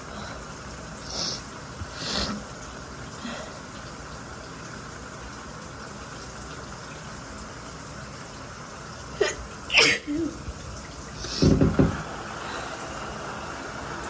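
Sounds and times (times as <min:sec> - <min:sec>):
shower water running: 0:00.0 - 0:14.0.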